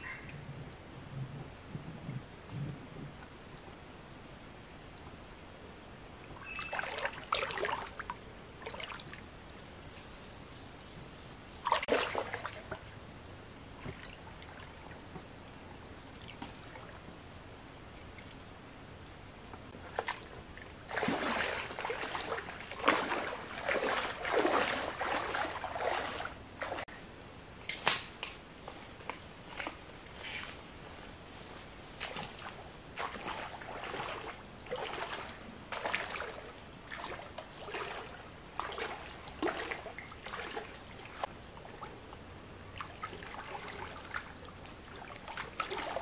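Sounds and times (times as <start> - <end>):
water splashing and sloshing: 4.6 - 10.4, 11.4 - 27.1, 27.9 - 46.0.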